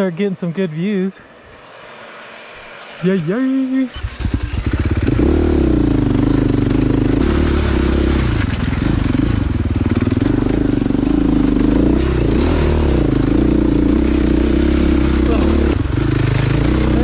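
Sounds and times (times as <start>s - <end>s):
dirt bike engine running: 3.3s - 17.0s.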